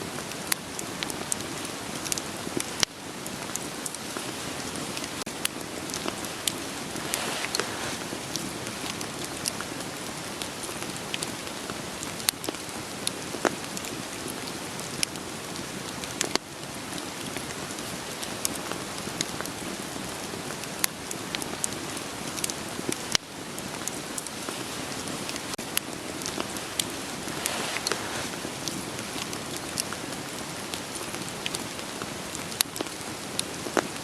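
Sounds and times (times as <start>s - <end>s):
rain hissing: 0.0s - 34.0s
wood fire crackling: 0.0s - 34.0s.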